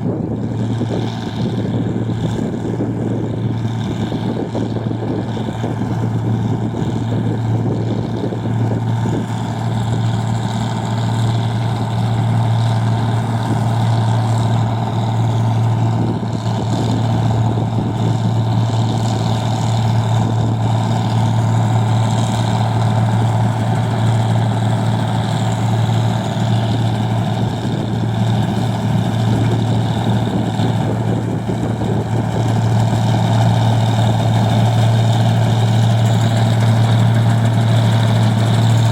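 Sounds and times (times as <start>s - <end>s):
machine engine humming: 0.0s - 38.9s.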